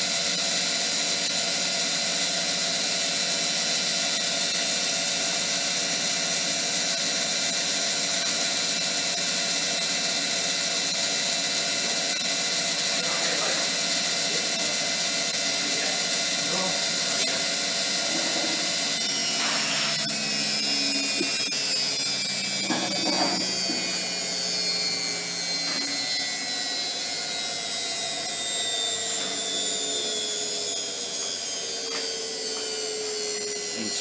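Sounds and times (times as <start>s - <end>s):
washing machine motor whine: 0.0s - 34.0s.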